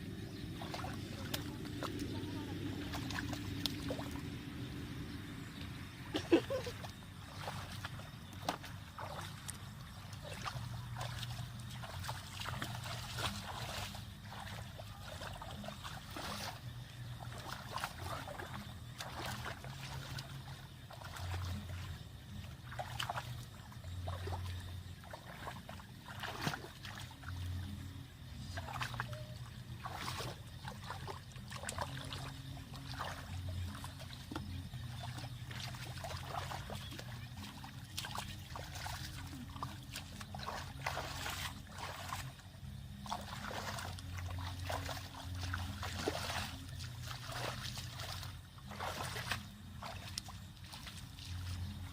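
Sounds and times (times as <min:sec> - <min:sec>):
low steady hum: 0:00.0 - 0:51.9
water trickling and splashing: 0:00.0 - 0:51.9.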